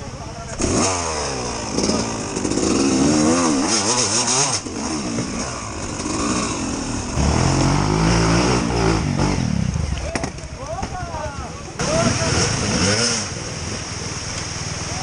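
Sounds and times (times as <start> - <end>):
motorcycle engine revving: 0.1 - 10.6, 11.8 - 15.0.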